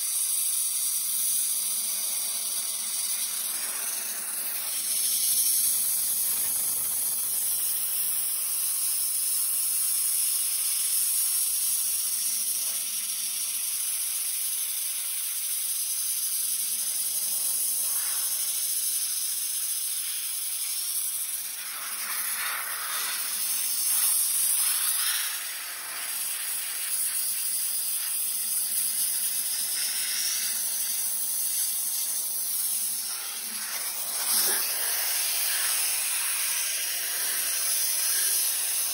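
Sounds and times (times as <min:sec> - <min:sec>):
sandblaster hissing: 0:00.0 - 0:38.9.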